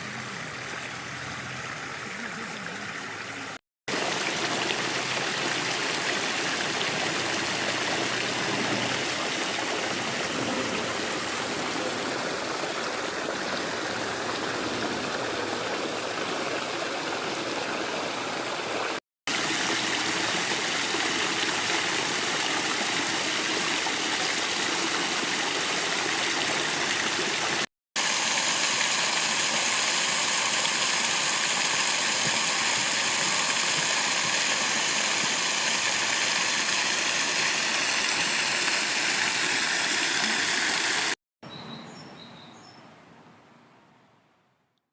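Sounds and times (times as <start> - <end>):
running water rushing: 0.0 - 41.2.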